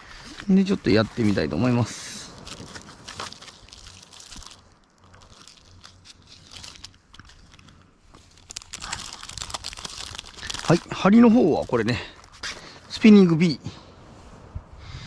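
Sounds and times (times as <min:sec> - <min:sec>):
fishing tackle clicks and rustles: 0:00.1 - 0:13.0.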